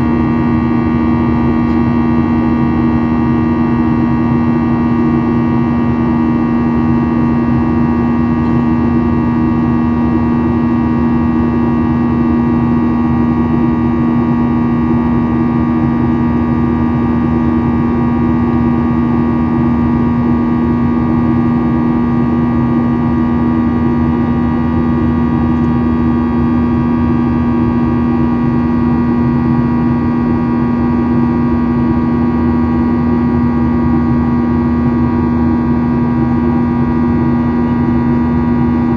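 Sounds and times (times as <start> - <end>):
jet engines droning: 0.0 - 38.9.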